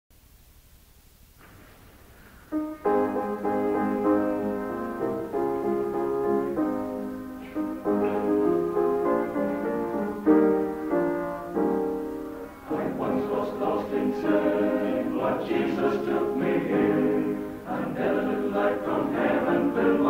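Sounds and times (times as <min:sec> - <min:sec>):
faint recording hiss: 0:00.1 - 0:20.0
piano block chords: 0:02.4 - 0:20.0.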